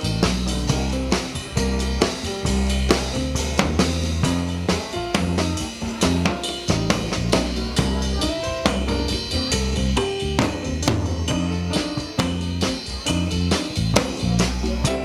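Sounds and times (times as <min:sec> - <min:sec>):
drum kit steady beat: 0:00.0 - 0:15.0
rock band playing: 0:00.0 - 0:15.0.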